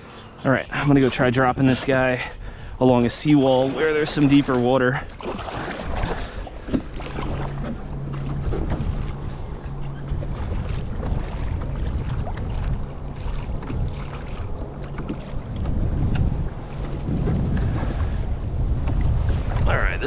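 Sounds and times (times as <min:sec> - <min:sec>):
low steady hum: 0:00.0 - 0:20.0
water lapping against hull: 0:00.0 - 0:20.0
wind buffeting microphone: 0:00.0 - 0:20.0.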